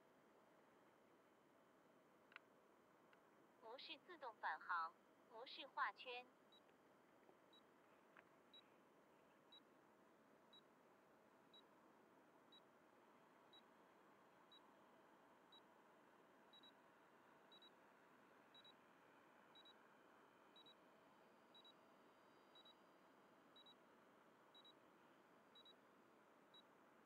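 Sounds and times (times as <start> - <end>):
low steady hiss: 0.0 - 27.0.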